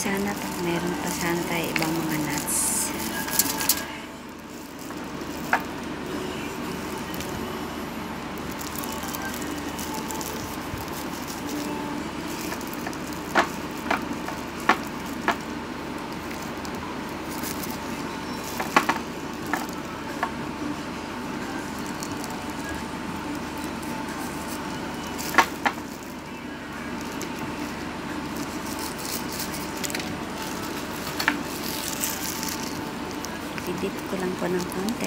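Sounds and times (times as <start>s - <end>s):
crinkly clicks of glove and foil: 0.0s - 7.6s, 8.3s - 35.0s.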